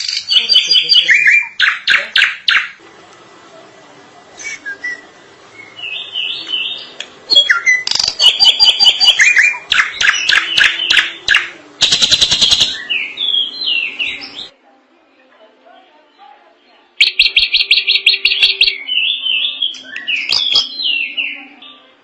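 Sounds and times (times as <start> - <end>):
bird singing varied song: 0.0 - 2.8, 4.4 - 14.6, 15.9 - 22.0.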